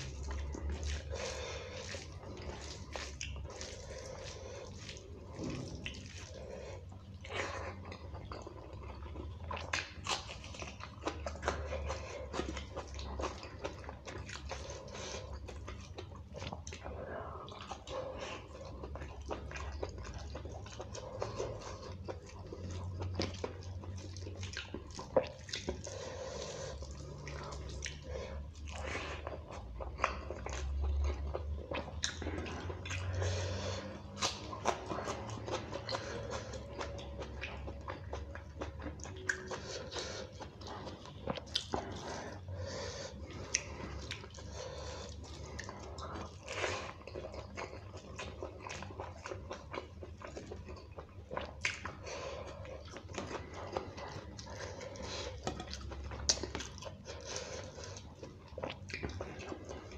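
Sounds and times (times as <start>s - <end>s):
wet chewing mouth sounds: 0.0s - 59.9s.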